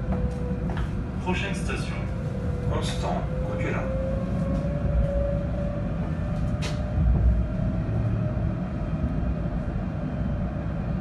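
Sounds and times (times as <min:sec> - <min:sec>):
tram low rumble: 0:00.0 - 0:11.0.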